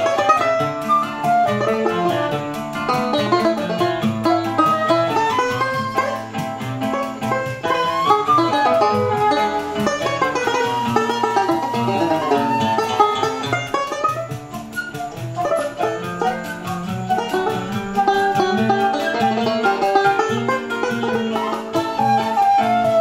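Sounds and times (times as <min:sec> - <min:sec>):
acoustic guitar: 0:00.0 - 0:23.0
banjo: 0:00.0 - 0:23.0
flute melody: 0:00.0 - 0:23.0
pandeiro: 0:00.0 - 0:23.0.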